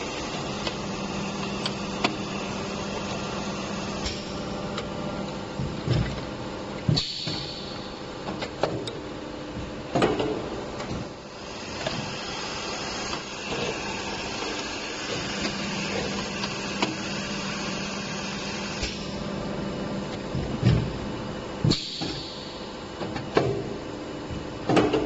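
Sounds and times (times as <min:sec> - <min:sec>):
machine humming and hissing: 0:00.0 - 0:25.0.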